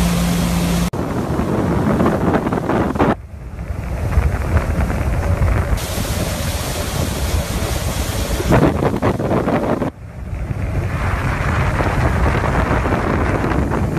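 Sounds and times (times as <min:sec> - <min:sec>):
churning wake: 0:00.0 - 0:13.9
motorboat engine: 0:00.0 - 0:13.9
wind buffeting microphone: 0:00.0 - 0:13.9.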